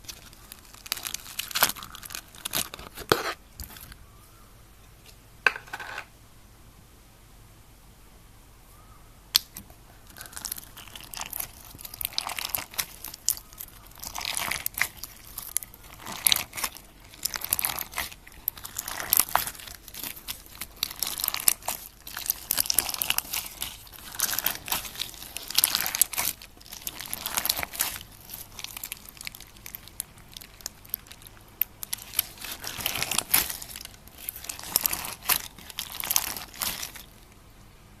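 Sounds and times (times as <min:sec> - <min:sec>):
slime and water beads squeezed: 0:00.0 - 0:03.9, 0:09.3 - 0:37.4.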